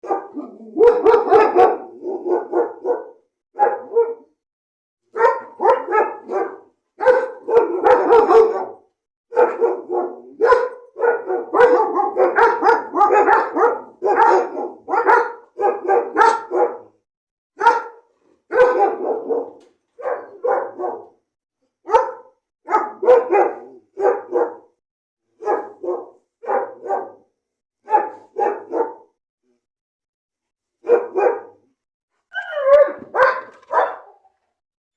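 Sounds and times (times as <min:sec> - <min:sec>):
dog barking: 0:00.0 - 0:04.4, 0:05.1 - 0:17.0, 0:17.6 - 0:24.8, 0:25.4 - 0:29.2, 0:30.8 - 0:34.4.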